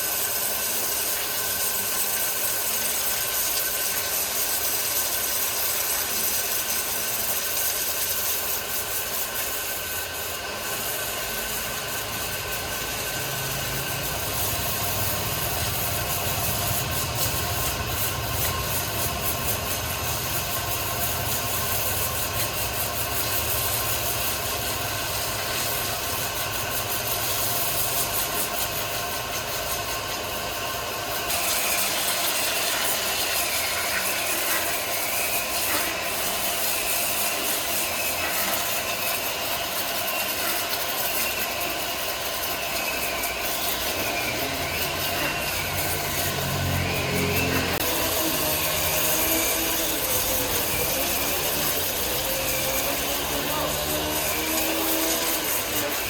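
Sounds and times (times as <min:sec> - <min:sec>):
high machine whine: 0:00.0 - 0:56.0
sawmill machinery rumble: 0:00.0 - 0:56.0.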